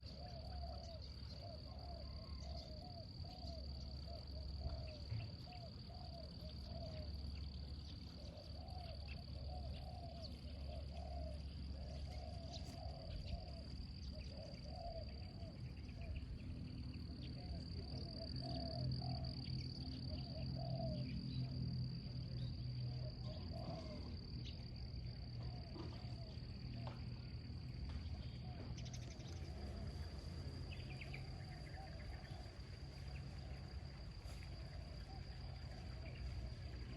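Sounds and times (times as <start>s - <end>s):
insects trilling: 0.0s - 36.9s.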